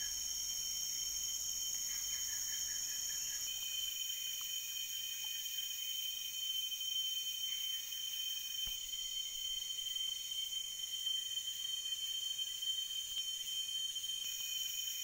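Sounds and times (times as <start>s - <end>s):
faint rapidly pulsing insect call: 0.0s - 15.0s
insects buzzing trills: 0.0s - 15.0s.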